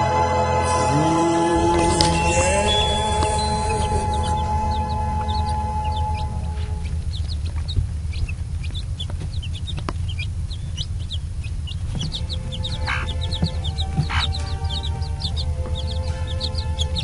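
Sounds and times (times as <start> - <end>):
steady low hum: 0.0 - 17.0
chicks peeping: 0.7 - 17.0
hen clucking: 1.8 - 17.0.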